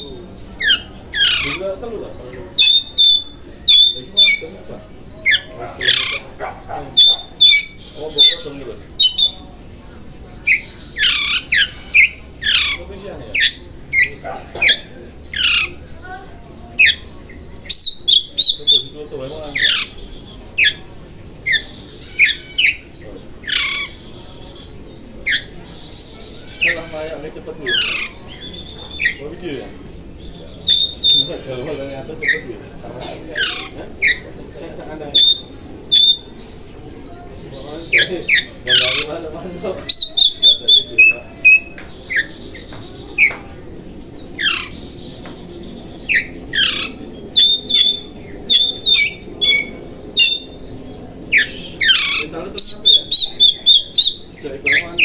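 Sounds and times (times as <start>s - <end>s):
bird calling: 0.0s - 55.0s.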